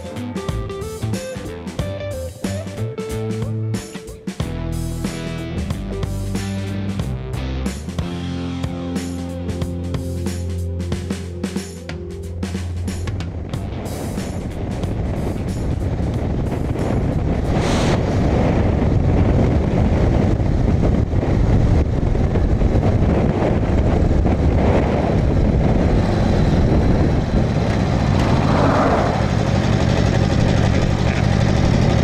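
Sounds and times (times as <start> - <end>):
motorcycle engine running: 4.4 - 17.6, 18.2 - 32.0.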